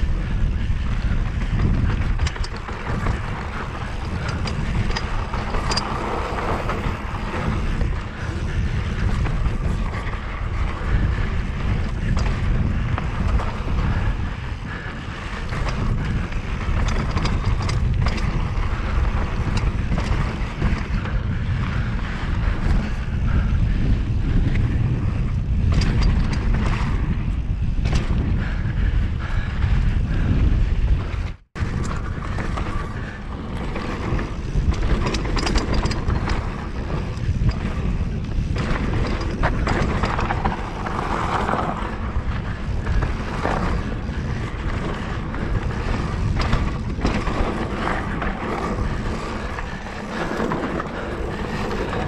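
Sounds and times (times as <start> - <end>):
bike rattling over bumps: 0.0 - 52.0
rumble of bike tyres on dirt: 0.0 - 52.0
wind buffeting microphone: 0.0 - 52.0.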